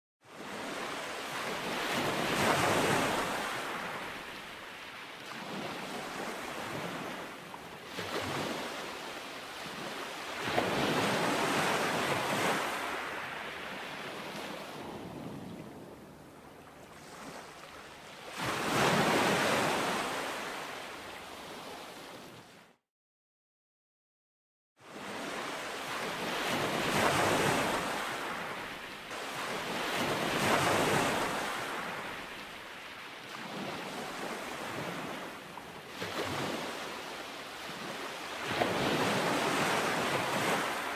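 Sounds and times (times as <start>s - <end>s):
ocean waves breaking: 0.3s - 22.7s, 24.8s - 40.9s.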